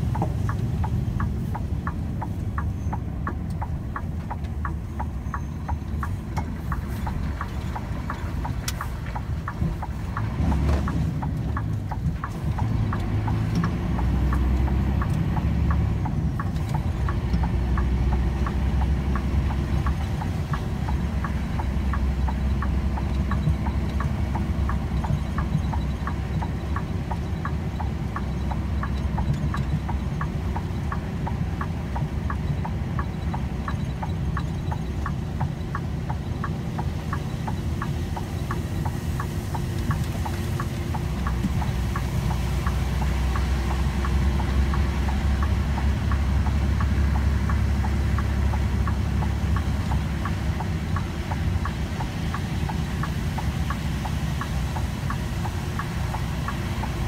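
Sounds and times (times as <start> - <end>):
regular light ticking: 0.0 - 57.0
vehicle engine and tyre rumble: 0.0 - 57.0.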